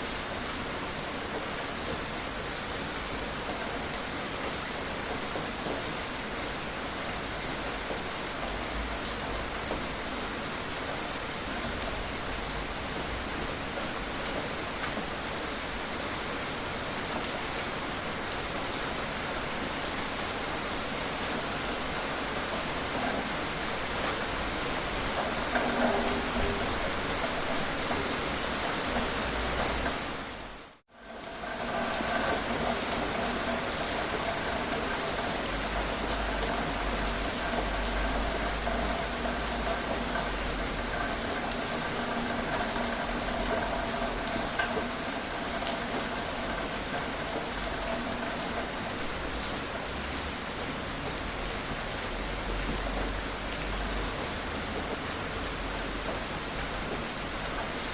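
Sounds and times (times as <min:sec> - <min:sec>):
gentle rain falling: 0:00.0 - 0:57.9.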